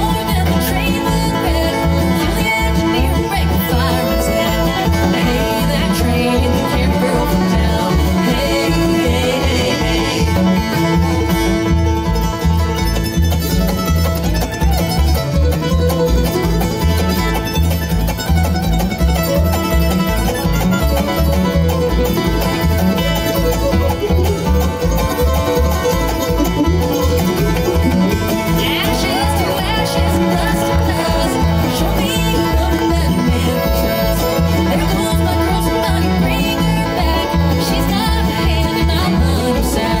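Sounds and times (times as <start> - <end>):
banjo picking: 0.0 - 40.0
guitar picking: 0.0 - 40.0.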